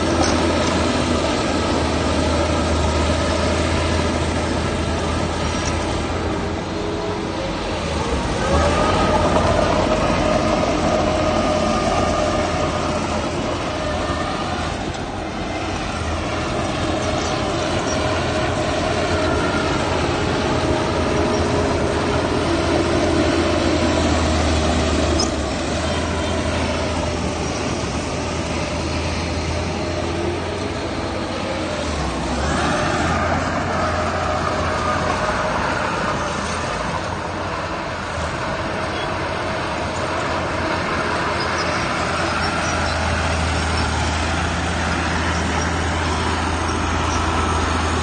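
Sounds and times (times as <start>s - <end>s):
heavy machinery engine rumble: 0.0s - 48.0s.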